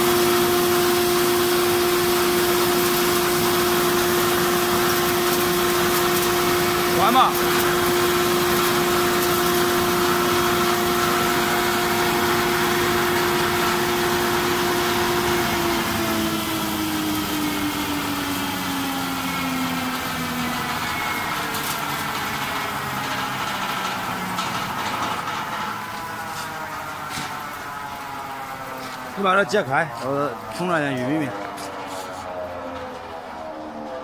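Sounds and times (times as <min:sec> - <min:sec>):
feed crusher whine: 0:00.0 - 0:34.0.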